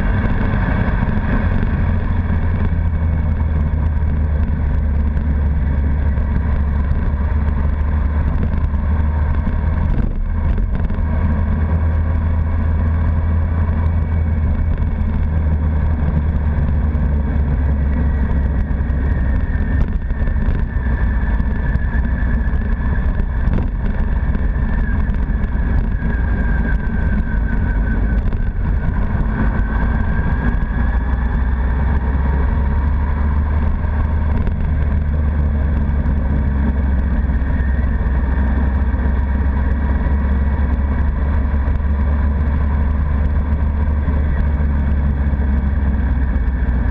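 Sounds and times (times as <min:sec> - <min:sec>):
engine whine: 0:00.0 - 0:46.9
motorcycle engine running: 0:00.0 - 0:46.9
wind and road noise rumble: 0:00.0 - 0:46.9.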